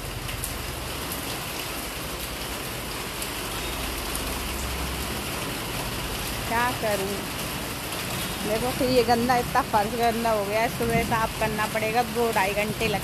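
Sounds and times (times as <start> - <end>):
heavy rain on brick paving: 0.0 - 13.0
sharp water drips: 0.0 - 13.0.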